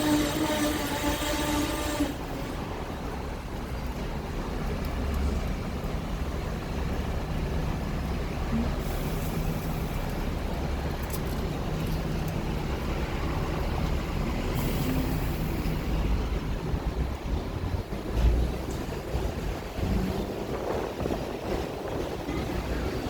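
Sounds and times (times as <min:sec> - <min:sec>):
tram rumbling: 0:00.0 - 0:23.0.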